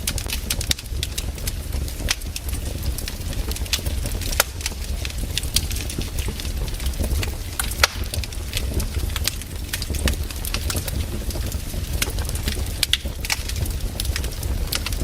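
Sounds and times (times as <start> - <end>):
firewood crackling and popping: 0.0 - 15.0
low fire rumble: 0.0 - 15.0.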